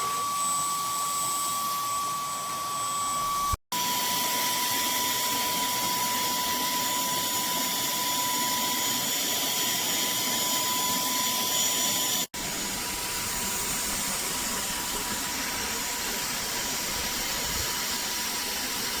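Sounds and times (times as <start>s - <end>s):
handheld vacuum cleaner motor: 0.0s - 19.0s.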